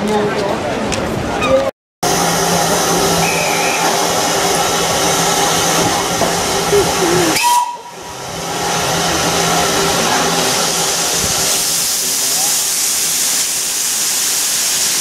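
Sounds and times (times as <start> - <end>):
steam locomotive hissing: 2.0 - 15.0.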